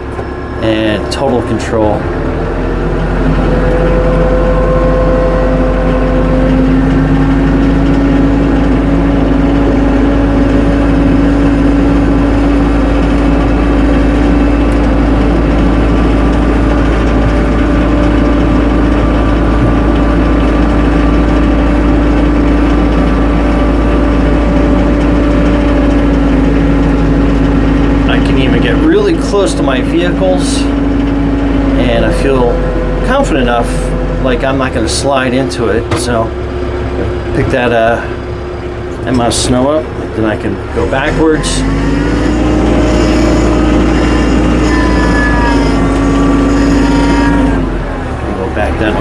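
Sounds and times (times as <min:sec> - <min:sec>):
steady whine: 0:00.0 - 0:49.0
tractor engine running: 0:00.0 - 0:49.0.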